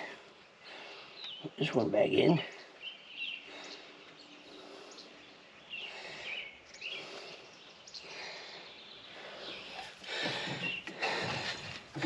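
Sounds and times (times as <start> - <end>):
birds chirping faintly: 0.0 - 12.0
outdoor background noise: 0.0 - 12.0.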